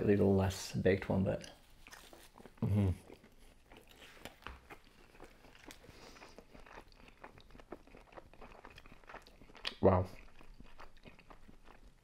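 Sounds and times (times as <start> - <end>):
chewing crispy pizza crust: 1.4 - 12.0.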